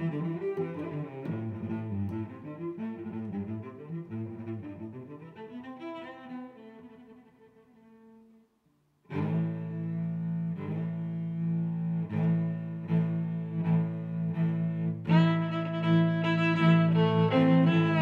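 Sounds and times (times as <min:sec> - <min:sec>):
bowed strings music: 0:00.0 - 0:18.0.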